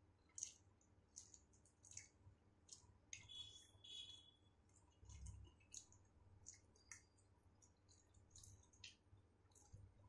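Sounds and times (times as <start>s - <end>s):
person chewing noodles: 0.2s - 9.9s.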